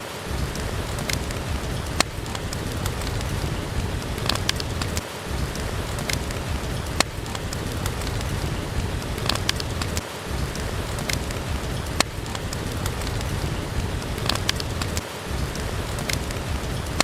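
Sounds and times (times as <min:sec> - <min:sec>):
log fire crackling and popping: 0:00.0 - 0:17.0
rain hissing: 0:00.0 - 0:17.0.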